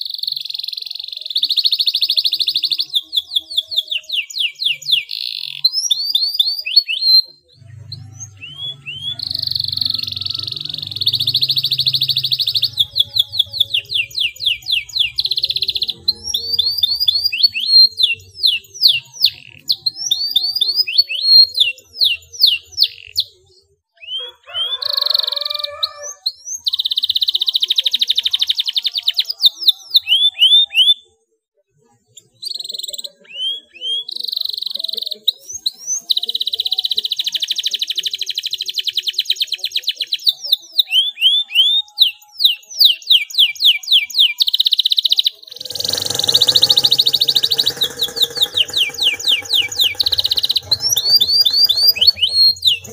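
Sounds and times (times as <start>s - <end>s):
canary singing: 0.0s - 31.1s, 32.2s - 52.9s.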